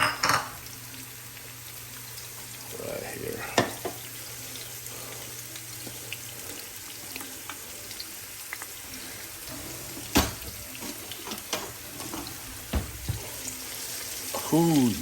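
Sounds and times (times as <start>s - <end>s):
onions sizzling in a pot: 0.0s - 15.0s.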